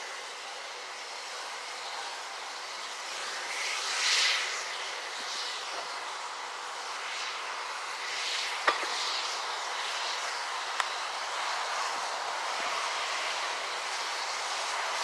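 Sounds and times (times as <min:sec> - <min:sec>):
steam locomotive rushing hiss: 0:00.0 - 0:15.0.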